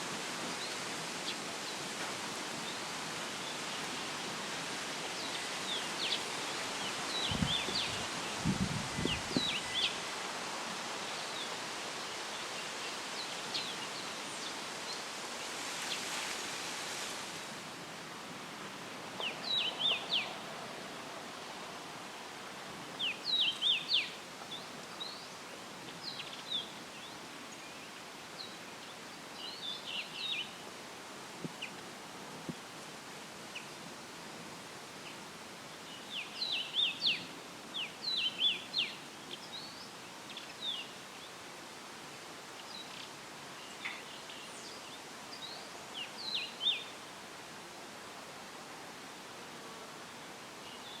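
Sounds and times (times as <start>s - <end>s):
leaves rustling in breeze: 0.0s - 51.0s
songbirds chirping: 0.2s - 16.4s, 19.0s - 21.7s, 22.9s - 30.8s, 33.5s - 47.7s.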